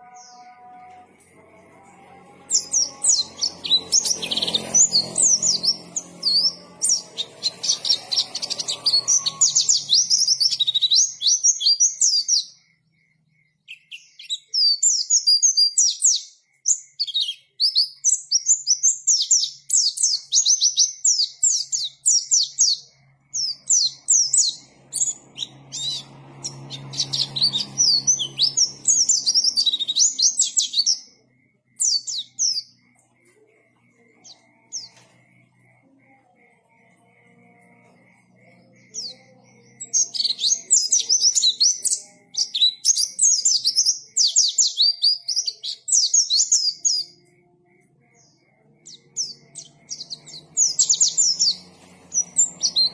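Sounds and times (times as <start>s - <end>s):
bird twittering song: 2.5s - 52.9s.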